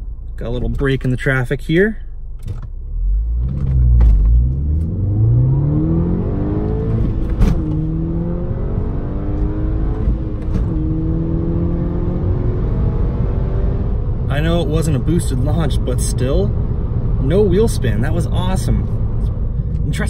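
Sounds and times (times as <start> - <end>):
car engine accelerating hard: 2.9 - 20.0.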